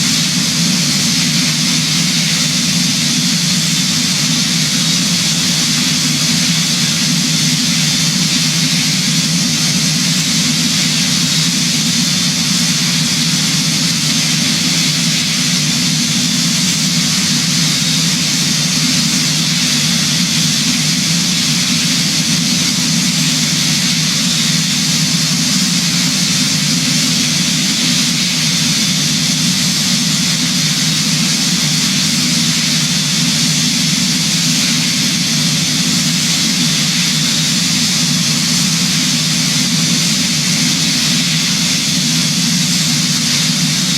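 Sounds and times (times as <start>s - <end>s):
airliner engines and airflow: 0.0s - 43.9s.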